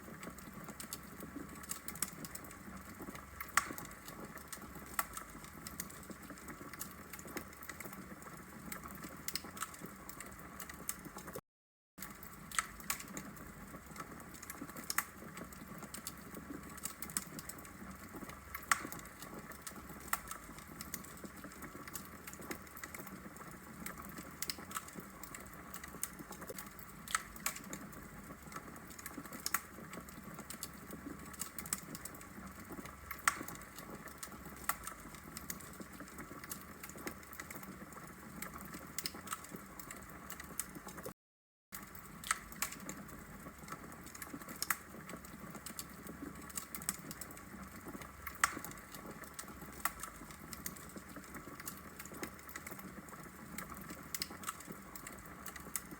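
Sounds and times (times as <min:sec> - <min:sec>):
log fire crackling: 0:00.0 - 0:11.3, 0:12.0 - 0:41.1, 0:41.8 - 0:55.9.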